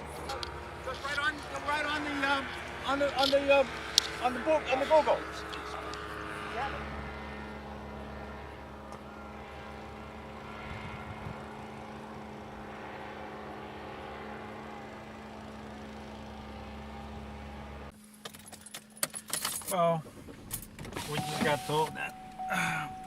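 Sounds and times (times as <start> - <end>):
car engine running: 0.0 - 17.9, 20.0 - 23.0.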